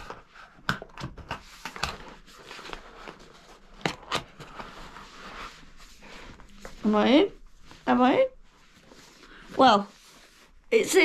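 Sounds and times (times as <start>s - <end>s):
soft rustling: 2.0s - 11.0s.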